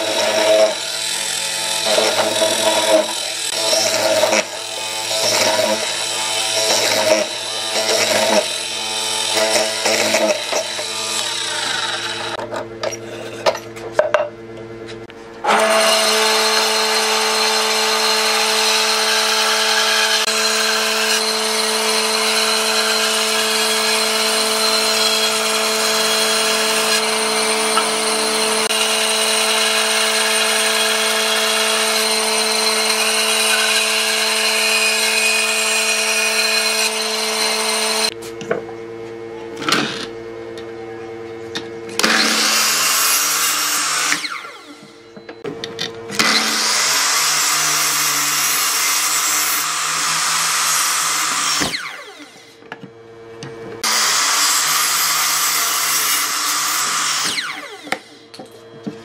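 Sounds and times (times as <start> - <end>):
band saw running: 0.0 - 14.1, 15.0 - 38.3, 39.6 - 40.2, 41.5 - 52.6, 53.4 - 59.0.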